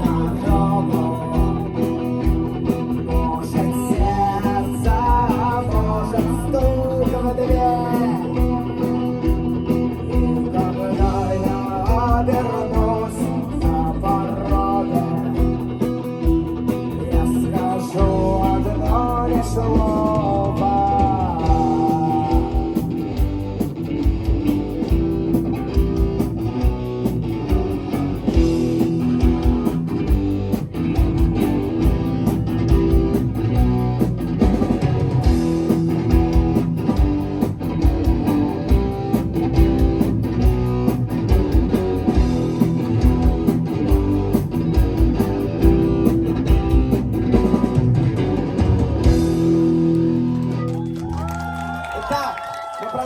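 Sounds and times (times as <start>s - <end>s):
steady drum beat: 0.0s - 50.3s
strummed electric guitar: 0.0s - 51.4s
bass guitar: 0.0s - 52.7s.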